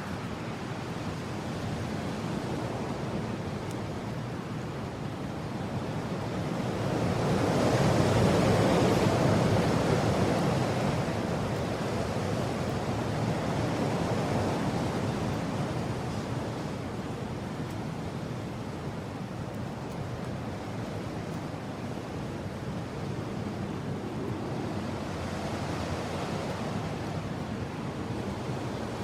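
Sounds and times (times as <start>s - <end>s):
strong wind gust: 0.0s - 29.0s.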